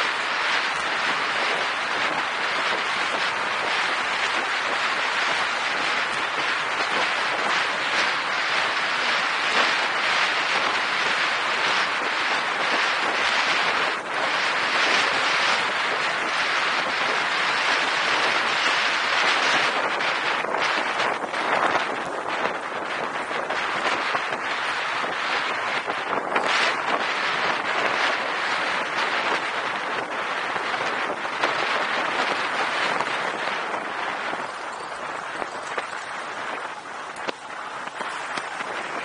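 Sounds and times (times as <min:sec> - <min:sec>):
road noise from bicycle: 0:00.0 - 0:39.0
rushing wind: 0:00.0 - 0:39.0
wind buffeting microphone: 0:00.0 - 0:39.0.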